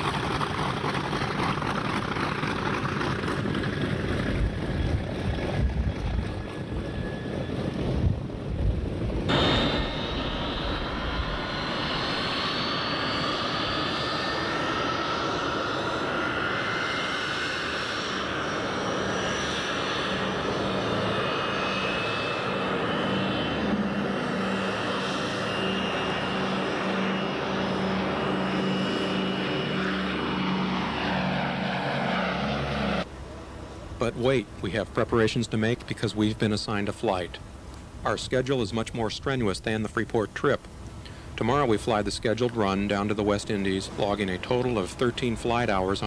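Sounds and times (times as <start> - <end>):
rising engine whine: 0.0 - 37.5, 38.1 - 46.0
low propeller hum: 0.0 - 46.0
propeller airliner engines droning: 0.0 - 46.0.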